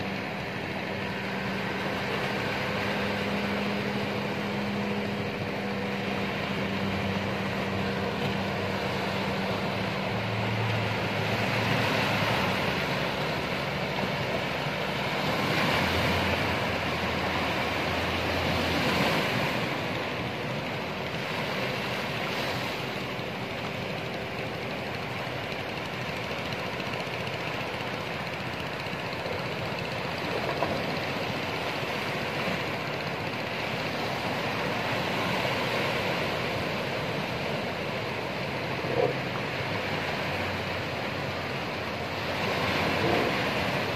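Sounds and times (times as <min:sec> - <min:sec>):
ocean surf breaking: 0:00.0 - 0:43.9
outboard motors humming: 0:00.0 - 0:43.9.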